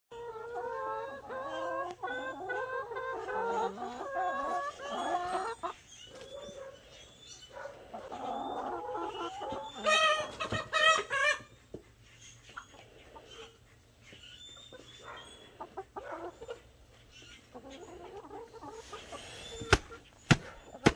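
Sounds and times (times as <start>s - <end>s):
hens clucking: 0.1s - 20.9s.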